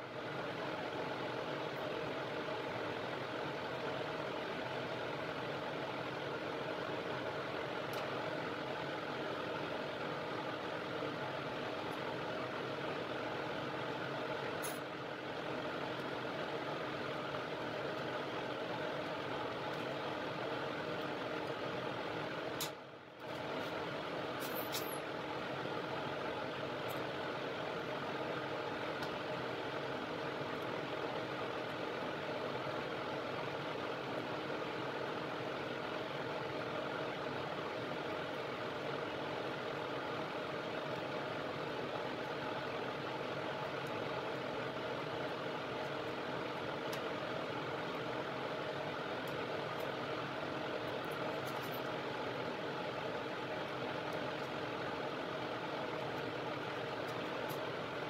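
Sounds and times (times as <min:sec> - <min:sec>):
blower fan humming: 0:00.0 - 0:58.0.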